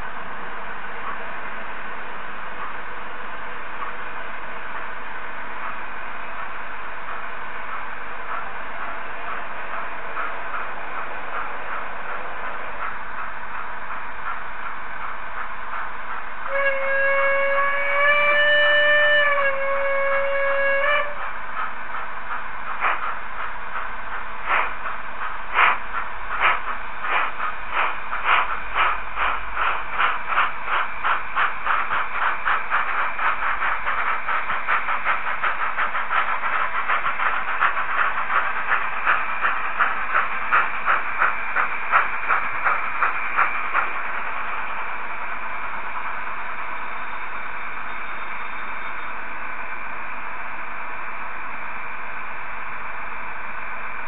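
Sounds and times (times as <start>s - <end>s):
steady steam hiss: 0.0s - 54.0s
steam locomotive chuffing: 0.0s - 54.0s.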